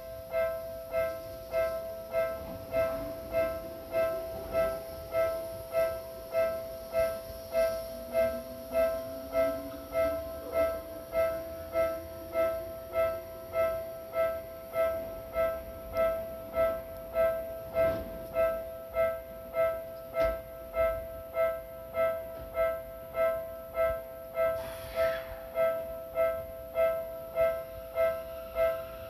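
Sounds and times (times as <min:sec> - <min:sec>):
level crossing warning bell: 0:00.0 - 0:29.0.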